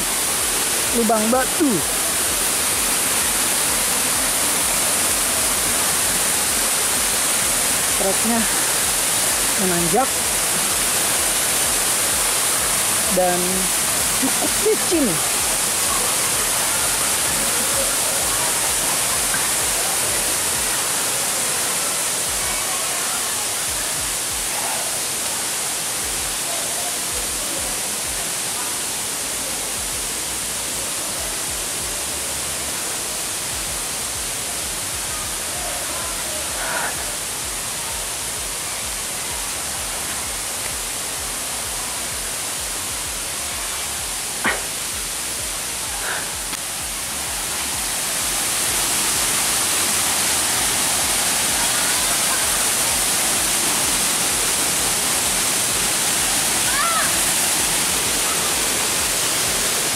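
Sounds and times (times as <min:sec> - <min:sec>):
stream and waterfall rushing: 0:00.0 - 0:59.9.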